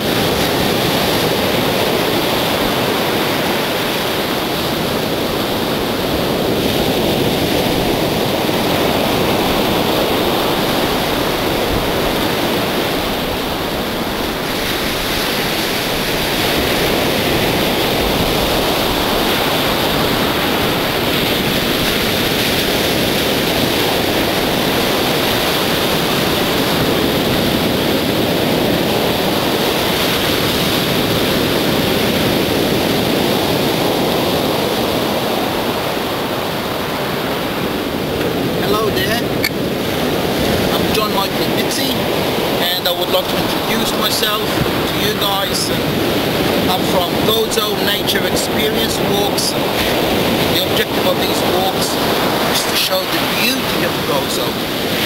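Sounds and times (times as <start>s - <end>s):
waves breaking on beach: 0.0s - 55.0s.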